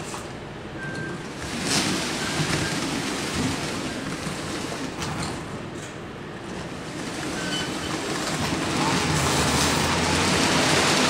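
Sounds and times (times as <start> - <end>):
model train motors and wheels rumbling: 1.3 - 11.0.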